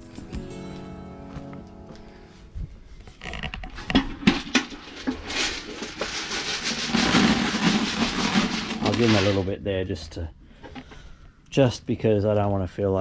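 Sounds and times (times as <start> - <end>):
calves rustling and shuffling: 0.0 - 11.4.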